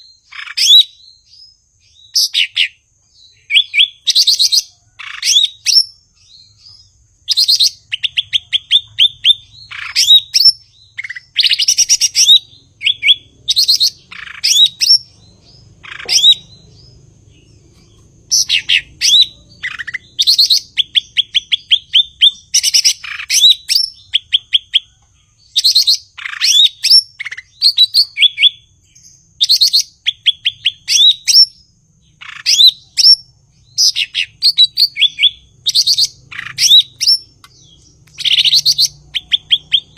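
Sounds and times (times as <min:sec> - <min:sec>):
bird singing chips and trills: 0:00.0 - 0:39.9.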